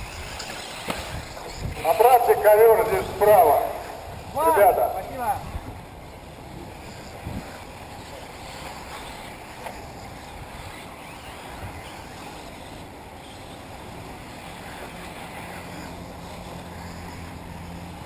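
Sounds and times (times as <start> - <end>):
rc cars running on track: 0.0 - 18.0.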